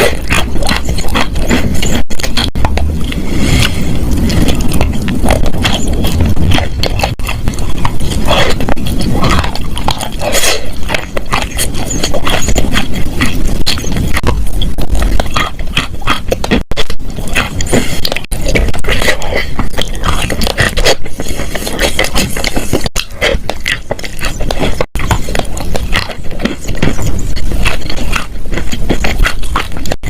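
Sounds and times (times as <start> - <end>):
chewing crunchy chalk: 0.0 - 30.0.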